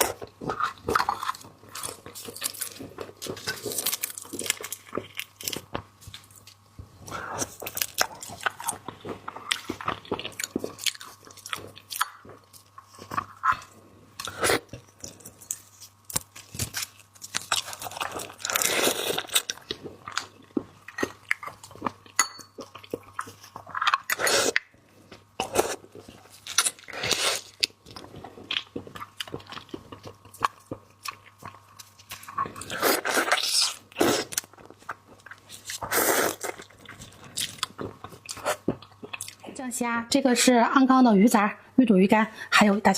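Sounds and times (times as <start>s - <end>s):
crunching and chewing seafood: 0.0s - 39.6s.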